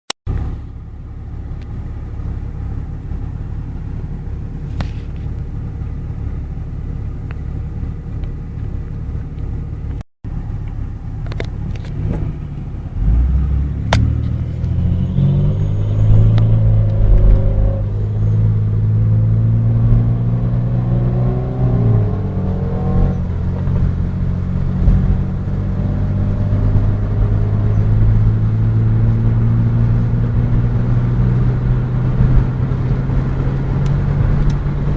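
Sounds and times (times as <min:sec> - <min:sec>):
car engine accelerating: 0:00.3 - 0:34.9.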